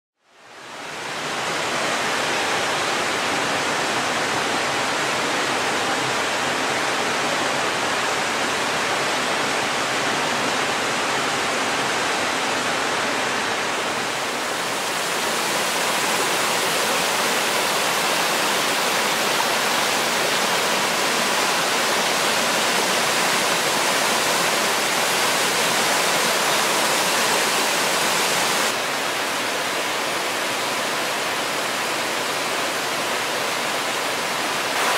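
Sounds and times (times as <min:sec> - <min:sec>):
waterfall rushing over rocks: 0:00.2 - 0:34.9.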